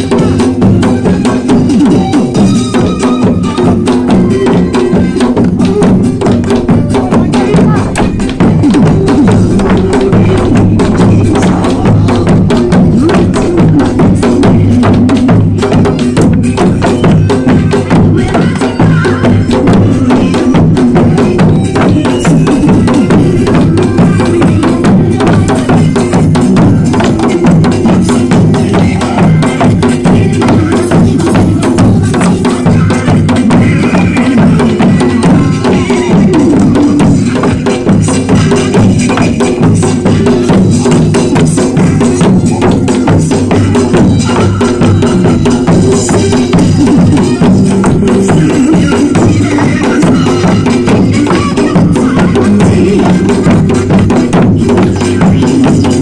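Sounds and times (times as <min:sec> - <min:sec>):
folk dance music with steady beat: 0:00.0 - 0:56.0
hand drums and barrel drums beaten: 0:00.0 - 0:56.0.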